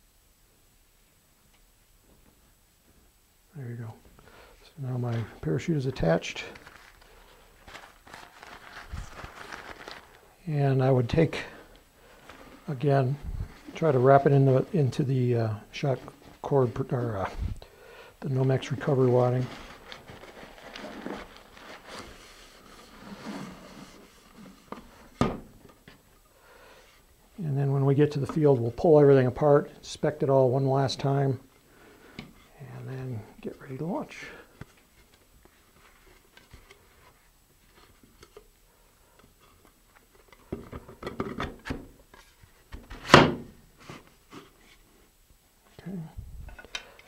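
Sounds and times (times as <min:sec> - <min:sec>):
soft rustling and handling: 0:01.0 - 0:43.0, 0:43.7 - 0:47.0.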